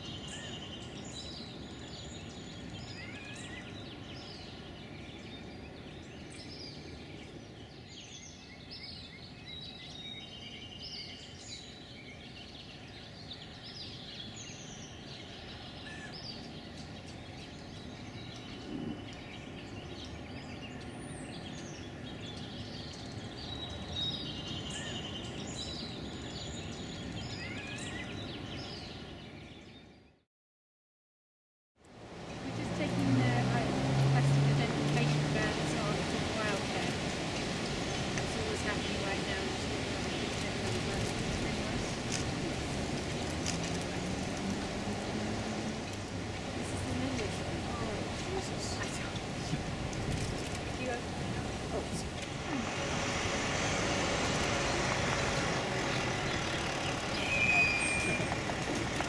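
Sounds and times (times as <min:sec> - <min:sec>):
small birds singing: 0:00.0 - 0:30.2, 0:31.9 - 0:59.0.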